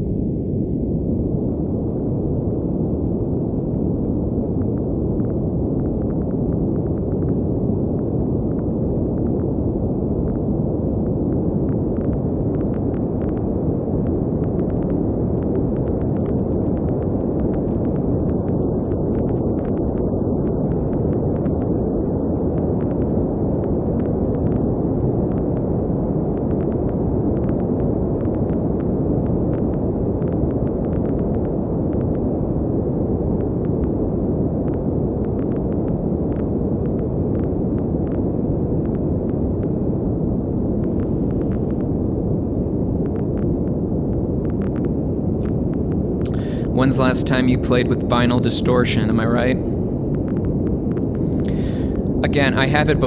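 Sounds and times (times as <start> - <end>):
low synthesized noise rumble: 0.0 - 53.0.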